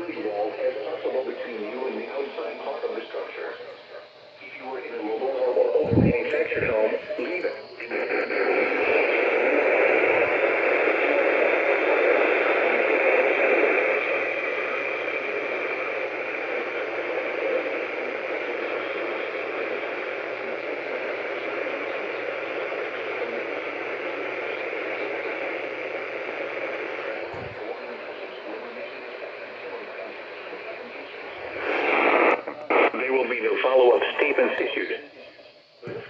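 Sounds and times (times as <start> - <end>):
faint low hum: 0.0 - 36.0
radio static hiss: 0.0 - 36.0.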